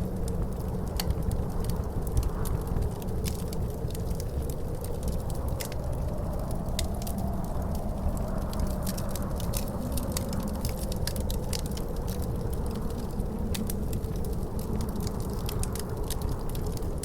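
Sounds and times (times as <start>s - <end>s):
low howl of wind: 0.0s - 17.0s
wood fire crackling: 0.0s - 17.0s.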